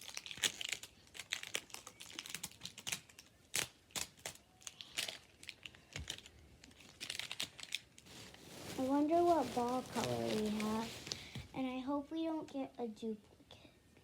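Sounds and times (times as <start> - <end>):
plastic wrapping crinkling: 0.0 - 11.7.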